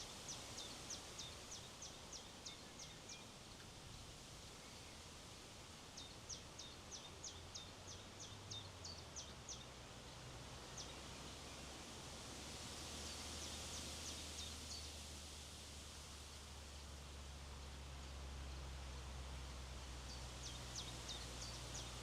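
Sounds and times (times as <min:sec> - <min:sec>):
steady wind hiss: 0:00.0 - 0:22.0.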